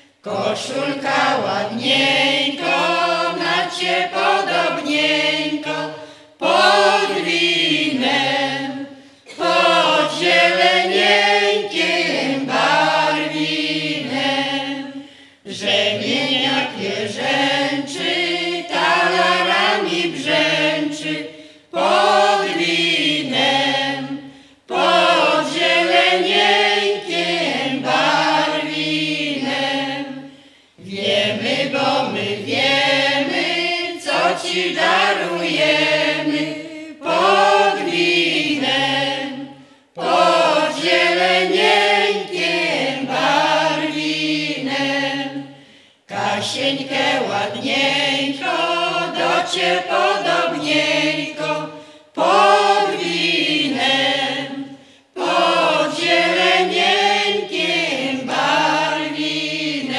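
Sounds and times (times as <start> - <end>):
folk choir singing unaccompanied: 0.0 - 59.9.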